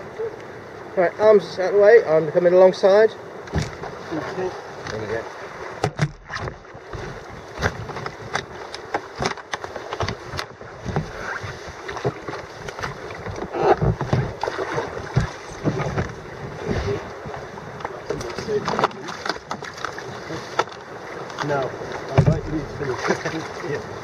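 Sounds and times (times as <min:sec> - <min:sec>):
kayak hulls and paddles knocking: 0:02.8 - 0:24.0
water washing: 0:02.8 - 0:24.0.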